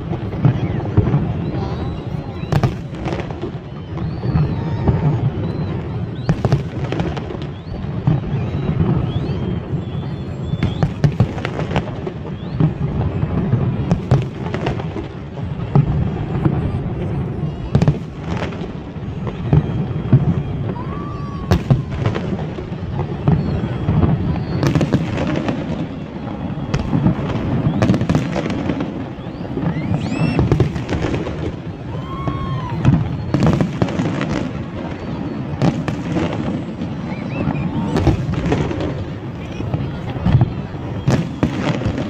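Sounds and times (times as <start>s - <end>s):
fireworks bangs and booms: 0.0s - 42.0s.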